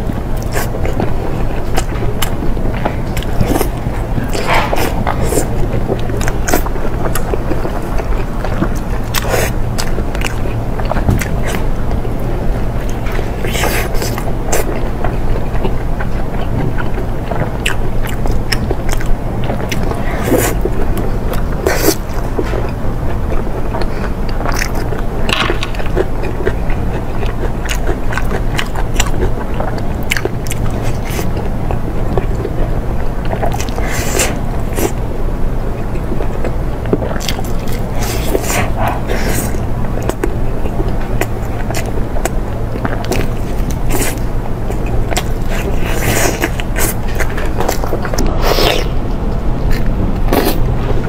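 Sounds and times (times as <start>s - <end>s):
chewing and biting food: 0.0s - 51.0s
low steady hum: 0.0s - 51.0s.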